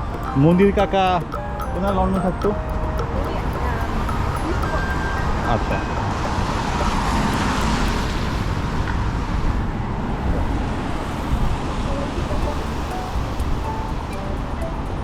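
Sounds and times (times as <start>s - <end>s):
steady traffic hiss: 0.0s - 15.0s.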